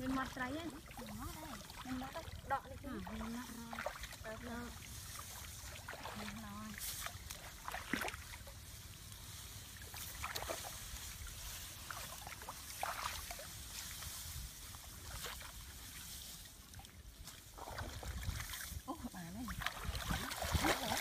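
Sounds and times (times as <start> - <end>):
short splashes: 0.0 - 8.6, 9.7 - 13.7, 16.7 - 21.0
branches dragged through water: 0.0 - 21.0
muddy water sloshing: 0.0 - 21.0.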